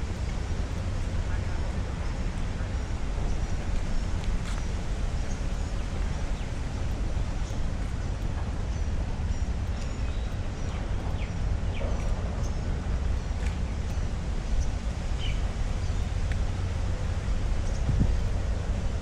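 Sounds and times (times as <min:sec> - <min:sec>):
steady low rumble: 0:00.0 - 0:19.0
birds chirping: 0:00.2 - 0:18.2.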